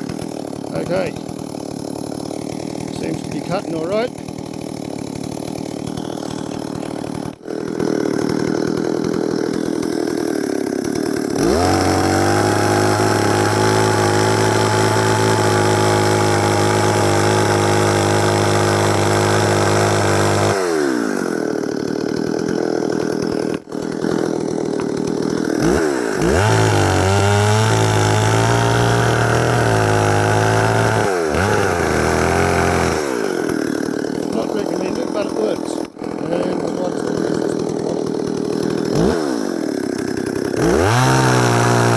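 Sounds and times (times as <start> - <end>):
chainsaw idling and revving: 0.0 - 41.9.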